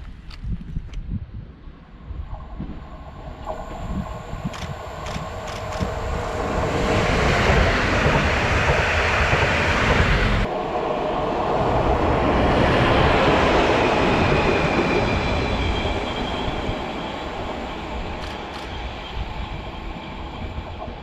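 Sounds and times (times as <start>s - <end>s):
train rolling past: 2.1s - 21.0s.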